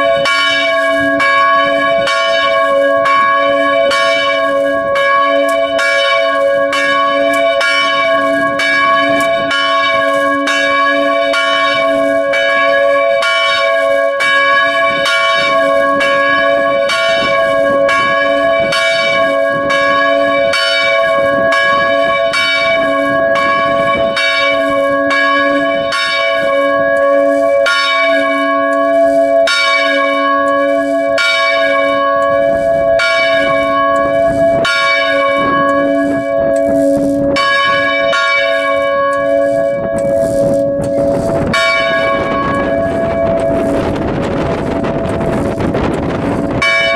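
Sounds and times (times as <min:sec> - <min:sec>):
bell clappers striking: 0:00.0 - 0:43.9
church bells ringing: 0:00.0 - 0:46.9.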